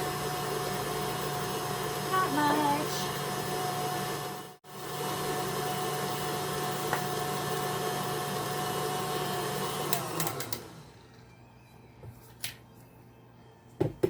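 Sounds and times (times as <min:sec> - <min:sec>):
electric mixer motor hum: 0:00.0 - 0:11.3.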